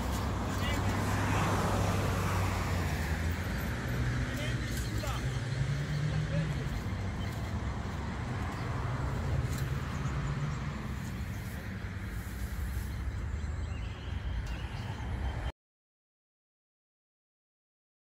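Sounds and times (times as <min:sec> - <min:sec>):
engine running low hum: 0:00.0 - 0:15.5
outdoor noise: 0:00.0 - 0:15.6.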